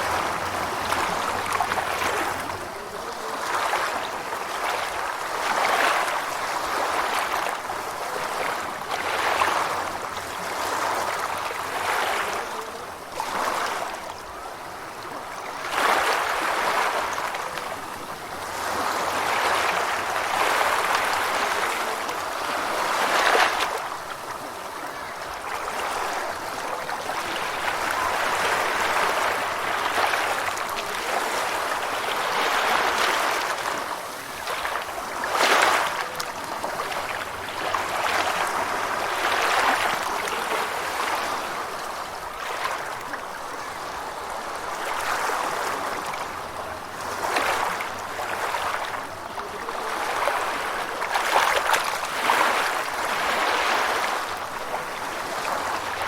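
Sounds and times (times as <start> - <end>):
ocean waves washing in: 0.0 - 56.0.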